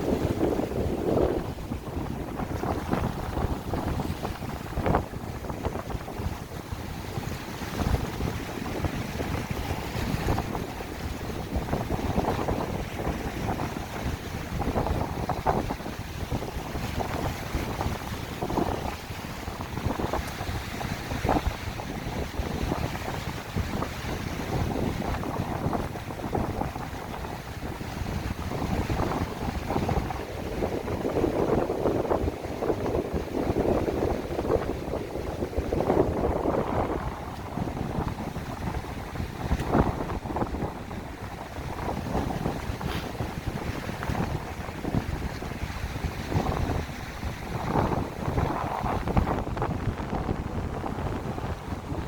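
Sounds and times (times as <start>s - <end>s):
waves breaking on shore: 0.0s - 52.0s
wind buffeting microphone: 0.0s - 52.0s.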